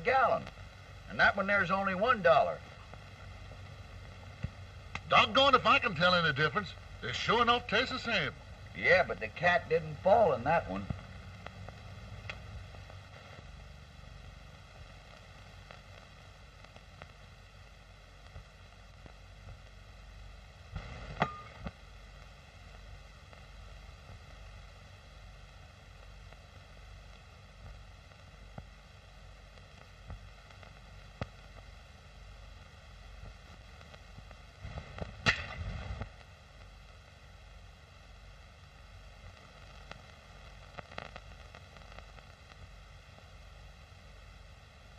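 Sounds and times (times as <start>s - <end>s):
film soundtrack hiss: 0.0s - 44.9s.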